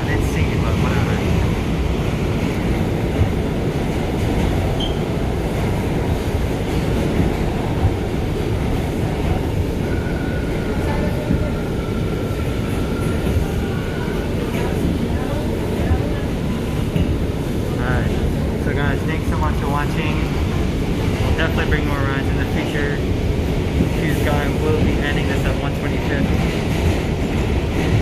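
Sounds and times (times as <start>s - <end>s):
subway car wheels rumbling on rail: 0.0s - 28.0s.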